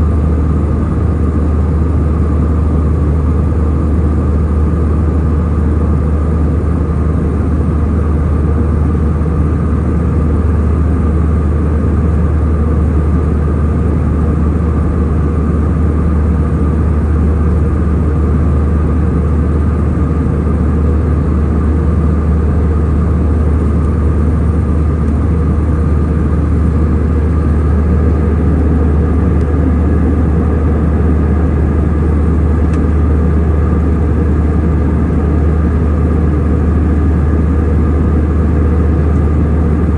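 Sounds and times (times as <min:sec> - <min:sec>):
airliner engine drone: 0:00.0 - 0:39.9.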